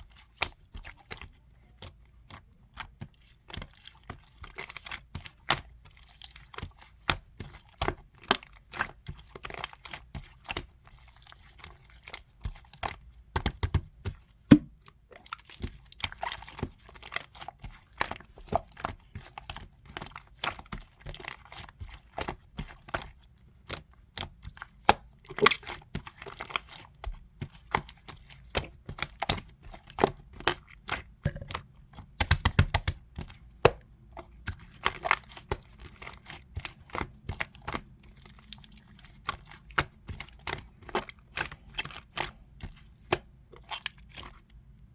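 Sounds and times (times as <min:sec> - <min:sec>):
slime squished by hand: 0:00.1 - 0:44.6.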